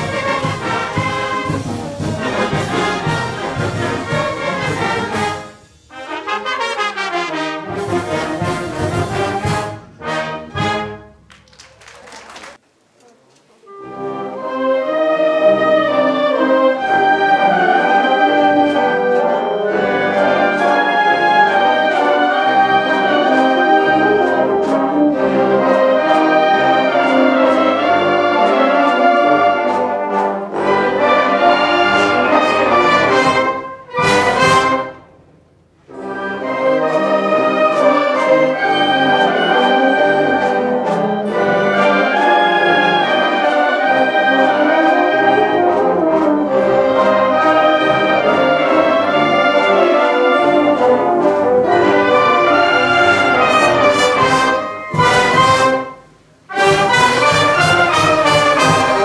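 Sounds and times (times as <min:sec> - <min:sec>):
wind band playing: 0:00.0 - 0:12.5, 0:13.6 - 0:59.0.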